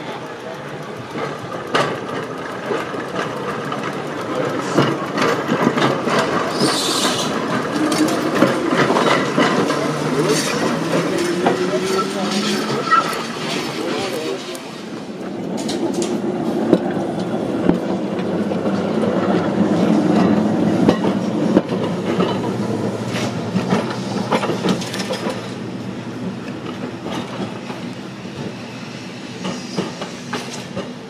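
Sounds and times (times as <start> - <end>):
electric tram rumbling on track: 0.0 - 31.0.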